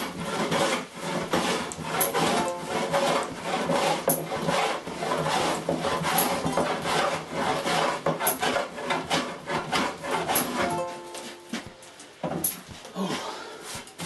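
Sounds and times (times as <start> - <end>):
hand tool scraping wood: 0.0 - 12.9.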